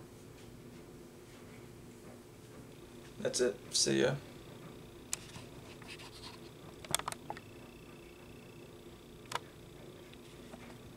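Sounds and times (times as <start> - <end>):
faint room hum: 0.0 - 10.9.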